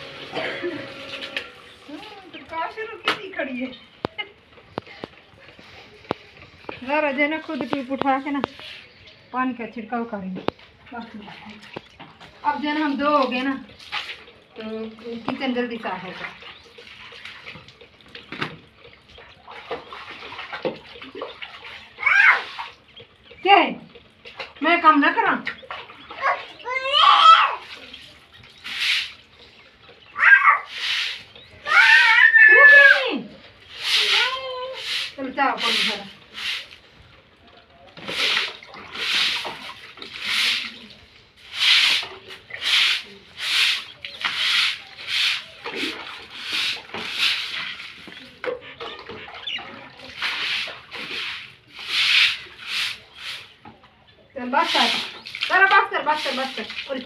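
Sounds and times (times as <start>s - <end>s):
water splashing on concrete: 9.9s - 53.7s, 54.4s - 57.0s.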